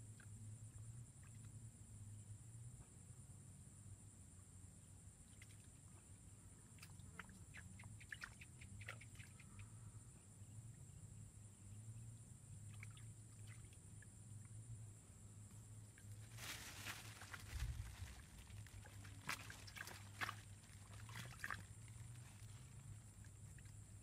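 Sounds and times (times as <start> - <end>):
faint chirps and ticks: 0.0 - 24.0.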